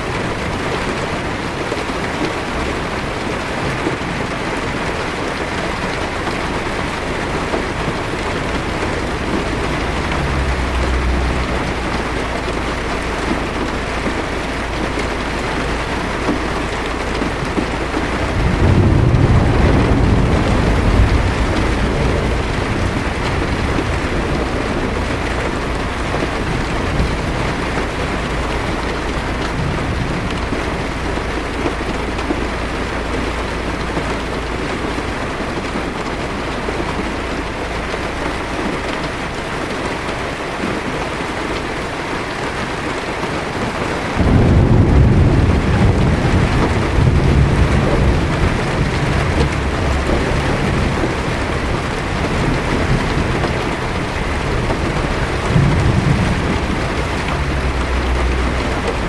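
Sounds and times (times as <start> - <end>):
deep thunder rumble: 0.0 - 41.0, 42.6 - 59.0
rain pattering on car: 0.0 - 59.0.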